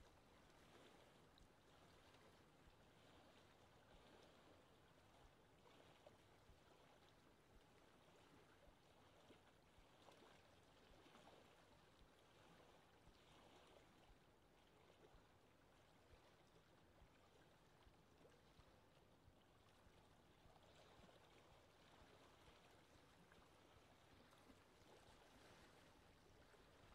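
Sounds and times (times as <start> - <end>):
faint water lapping: 0.0 - 26.9.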